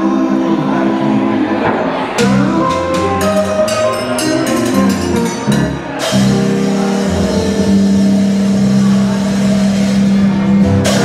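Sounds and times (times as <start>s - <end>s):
jug band music: 2.1s - 11.0s.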